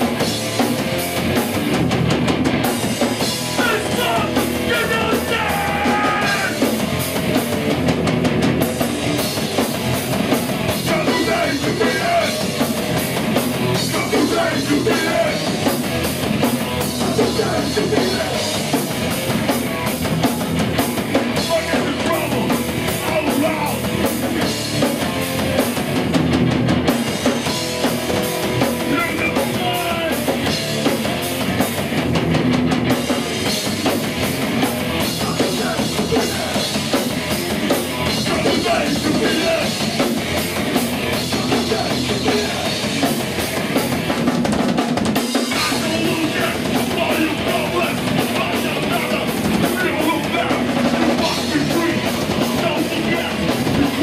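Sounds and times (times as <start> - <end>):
punk band playing live: 0.0 - 54.0.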